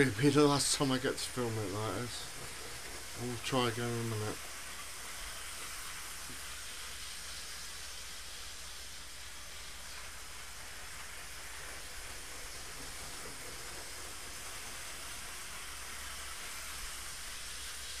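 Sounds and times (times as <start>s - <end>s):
model trains whirring on rails: 0.0s - 18.0s.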